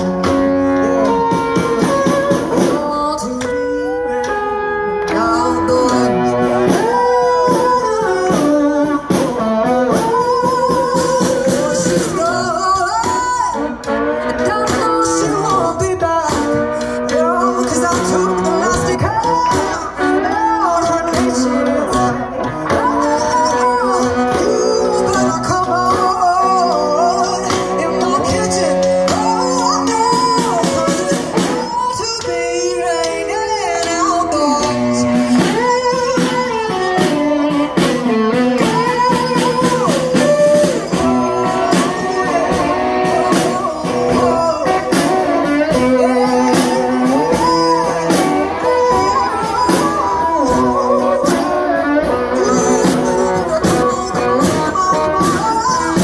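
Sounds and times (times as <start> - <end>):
guitar: 0.0 - 56.0
woman singing: 0.0 - 56.0.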